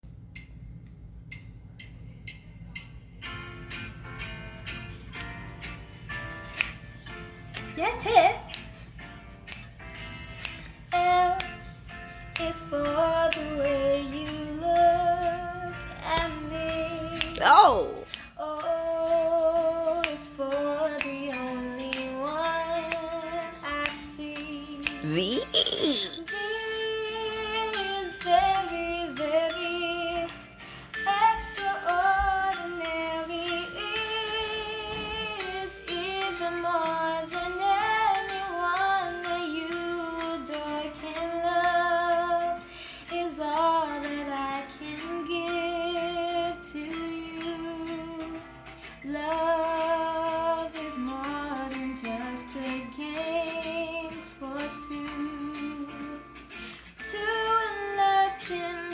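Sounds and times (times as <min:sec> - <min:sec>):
woman singing slow love song: 0:10.8 - 0:11.7, 0:12.3 - 0:58.9.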